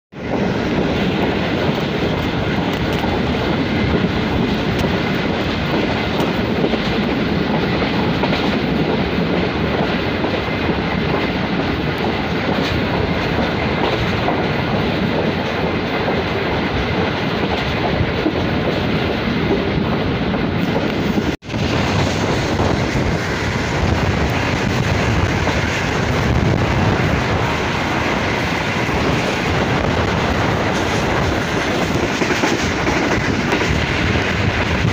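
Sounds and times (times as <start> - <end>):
train wheels on rails: 0.1 - 34.9.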